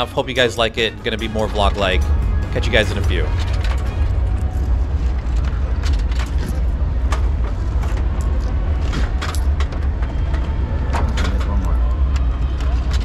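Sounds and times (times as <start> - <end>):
low crowd rumble: 0.0 - 13.0.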